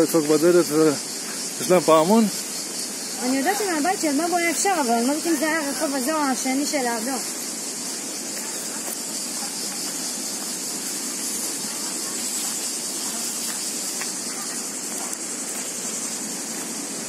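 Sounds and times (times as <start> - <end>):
high-pitched hiss: 0.0 - 17.0.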